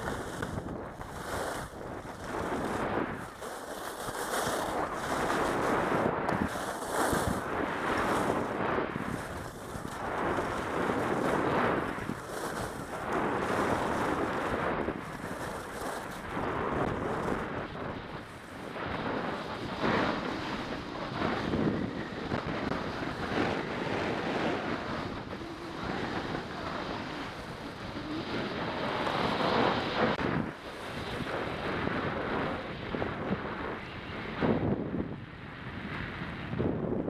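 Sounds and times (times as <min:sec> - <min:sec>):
skis scraping on icy snow: 0:00.0 - 0:31.5
wind rushing over microphone: 0:00.0 - 0:37.0.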